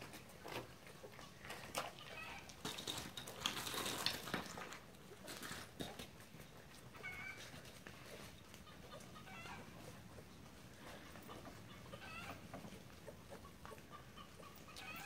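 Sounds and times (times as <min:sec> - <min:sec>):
puppies suckling and rustling: 0:00.0 - 0:15.0.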